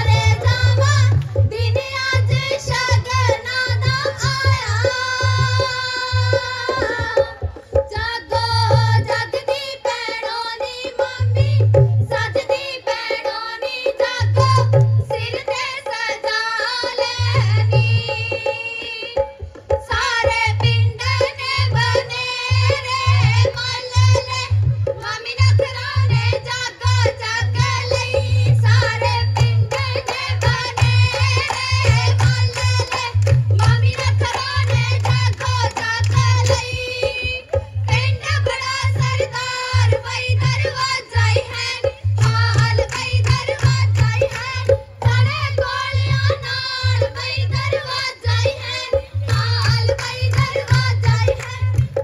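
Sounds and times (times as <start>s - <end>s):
hand-drum beat: 0.0s - 52.0s
women singing into microphones: 0.0s - 52.0s.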